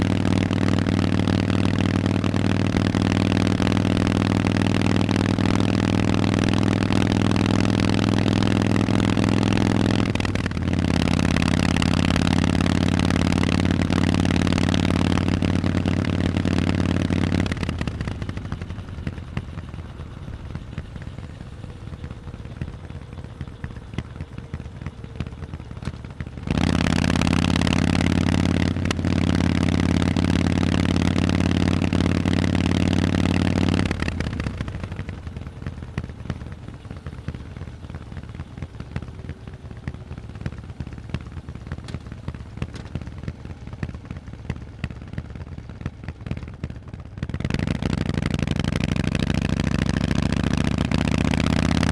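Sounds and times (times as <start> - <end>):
crackly exhaust on overrun: 0.0 - 51.9
motorcycle engine under throttle: 0.0 - 51.9.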